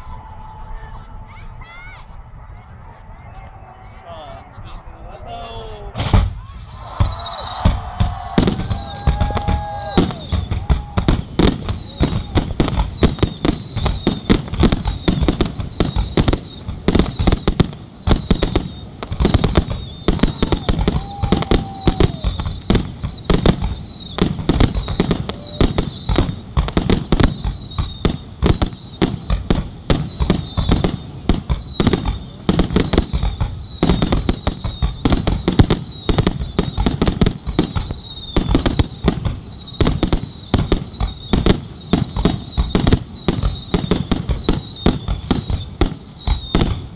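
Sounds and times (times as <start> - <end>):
fireworks whistling: 5.7 - 46.9
fireworks bangs: 5.8 - 46.9.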